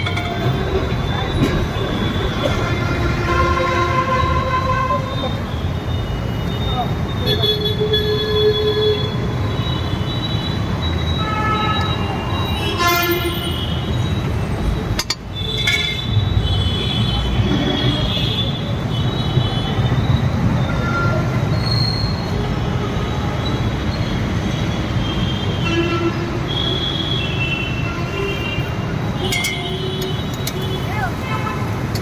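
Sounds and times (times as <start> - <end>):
loud street noise: 0.0 - 32.0.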